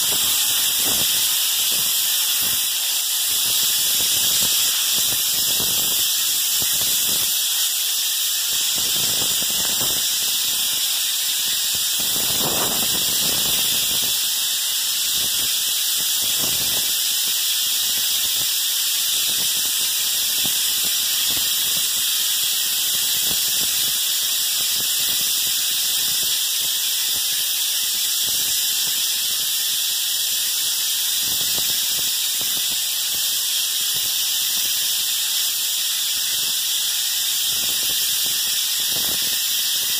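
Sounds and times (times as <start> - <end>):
texture spray gun hissing: 0.0 - 39.9.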